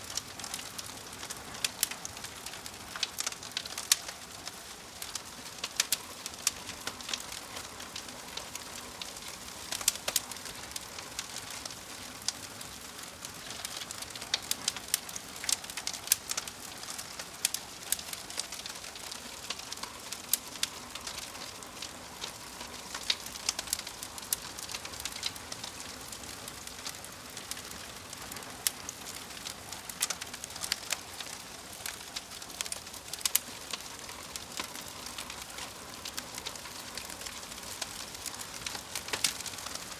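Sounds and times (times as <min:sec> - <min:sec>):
fire hissing: 0:00.0 - 0:39.9
log fire crackling and popping: 0:00.0 - 0:39.9.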